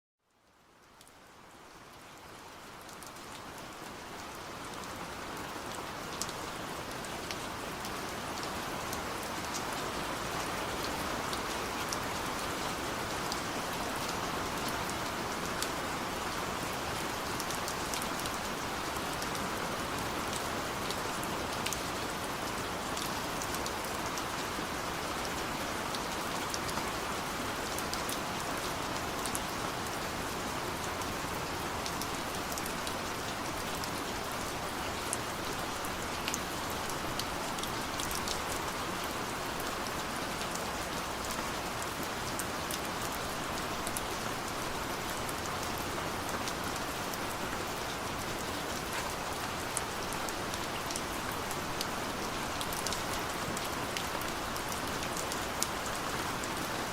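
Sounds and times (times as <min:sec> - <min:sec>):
steady rain falling: 0:00.2 - 0:56.9.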